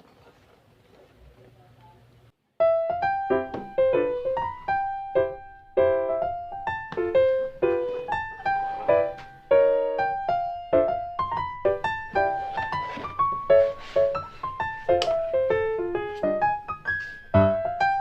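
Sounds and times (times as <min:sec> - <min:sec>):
piano melody: 0:02.6 - 0:18.0.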